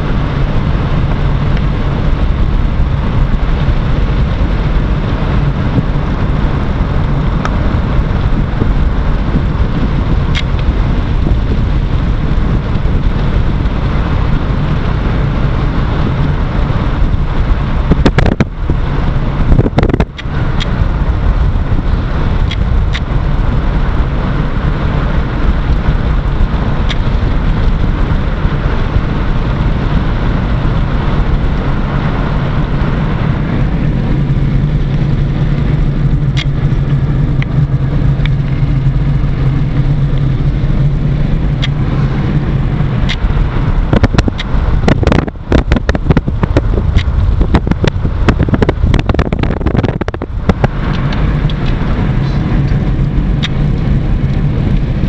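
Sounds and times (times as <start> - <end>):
car engine hum and road noise: 0.0 - 55.0.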